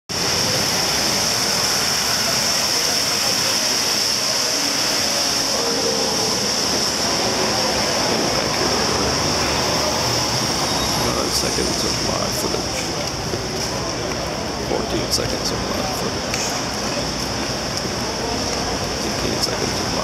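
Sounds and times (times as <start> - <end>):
traffic noise: 0.1 - 20.0
trolley bus passing: 0.1 - 20.0
steady high-pitched hiss: 0.2 - 20.0
tyre hiss on wet pavement: 0.2 - 20.0.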